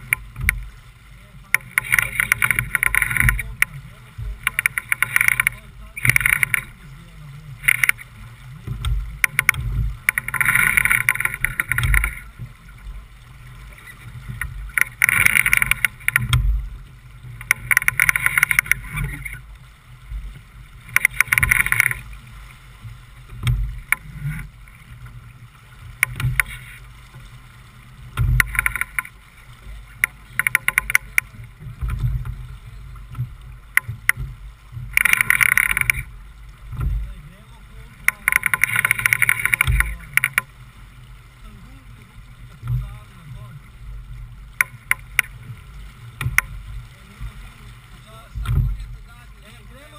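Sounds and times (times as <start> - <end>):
water splashing along boat hull: 0.0 - 49.9.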